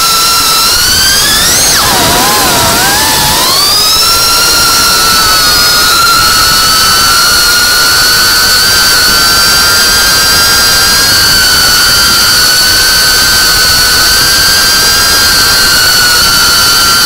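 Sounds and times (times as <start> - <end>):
drone motors high-pitched whine: 0.0 - 17.0.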